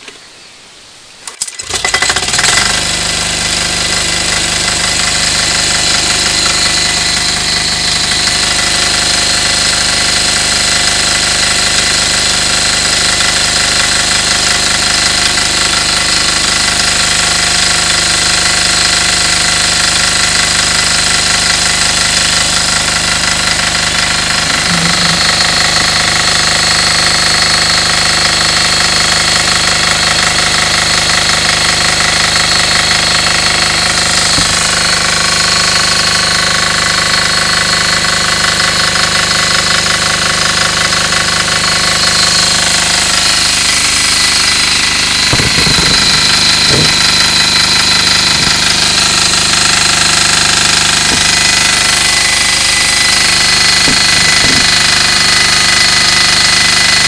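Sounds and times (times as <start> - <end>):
diesel generator running: 1.2 - 57.0.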